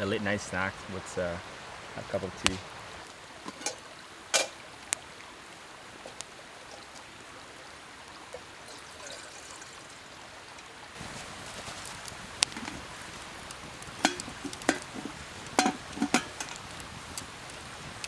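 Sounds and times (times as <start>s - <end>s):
campfire crackling and popping: 1.2s - 18.0s.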